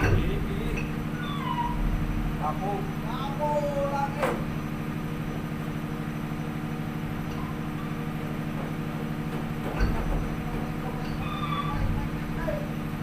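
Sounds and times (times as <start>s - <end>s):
ship machinery humming: 0.0s - 13.0s.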